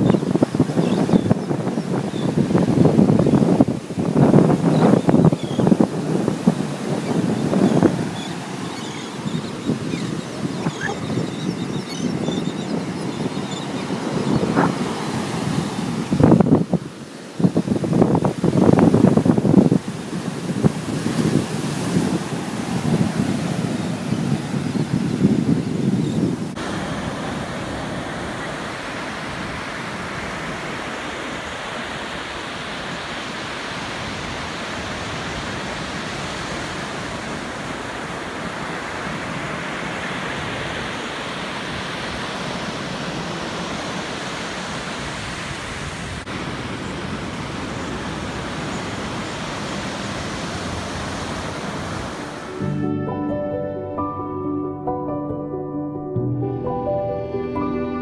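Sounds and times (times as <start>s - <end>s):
wind buffeting microphone: 0.0s - 52.5s
ocean surf on beach: 0.0s - 54.6s.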